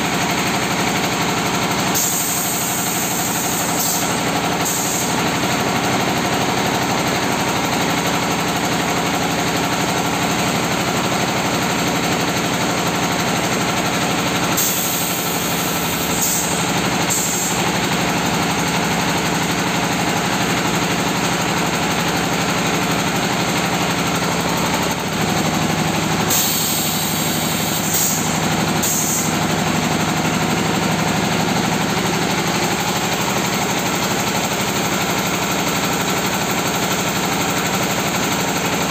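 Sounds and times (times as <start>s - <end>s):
press machine motor drone: 0.0s - 38.8s
rhythmic mechanical clatter: 0.0s - 38.9s.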